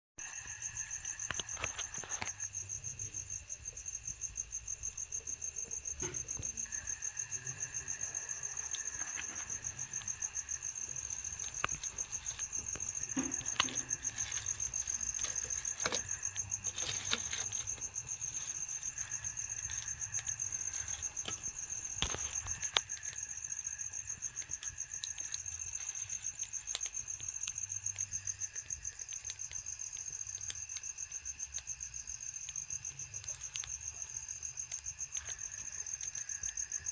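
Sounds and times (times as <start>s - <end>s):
campfire popping and crackling: 0.2s - 36.9s
crickets chirping: 0.2s - 36.9s.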